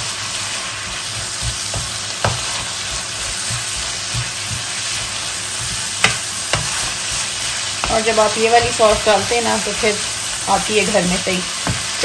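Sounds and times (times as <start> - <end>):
food sizzling in a wok: 0.0 - 12.0
spatula scraping wok: 0.0 - 12.0.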